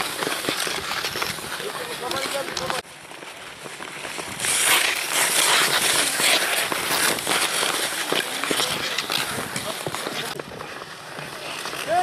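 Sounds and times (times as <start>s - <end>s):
ice crackling clicks: 0.0s - 12.0s
skate blades scraping on ice: 0.0s - 12.0s.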